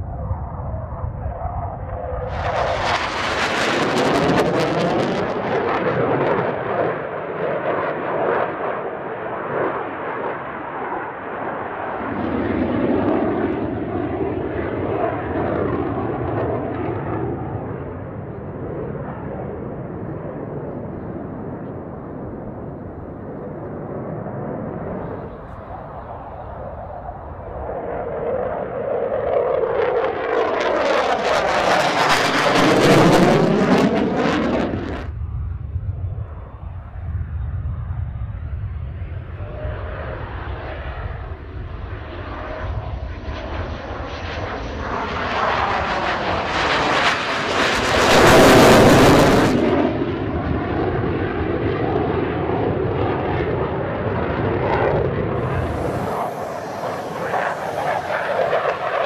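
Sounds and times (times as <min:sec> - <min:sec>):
fighter jet passing: 0:00.0 - 0:59.0.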